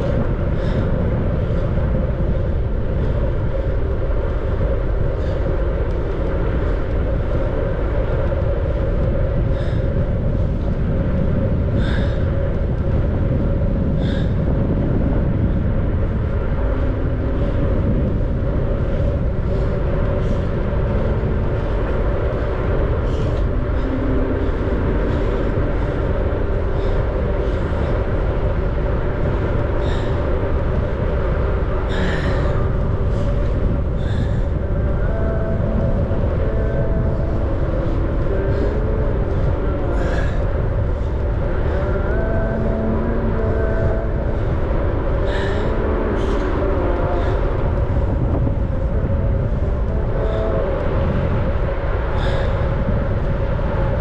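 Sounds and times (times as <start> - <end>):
bicycle tyres rolling on pavement: 0.0 - 54.0
constant hum: 0.0 - 54.0
wind on microphone: 0.0 - 54.0.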